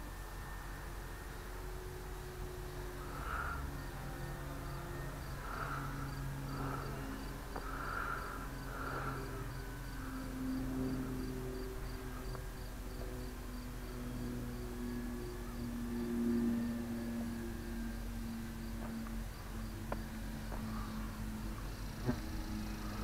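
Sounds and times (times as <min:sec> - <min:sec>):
cricket chirping: 0:00.0 - 0:23.0
distant model plane motor drone: 0:00.0 - 0:23.0.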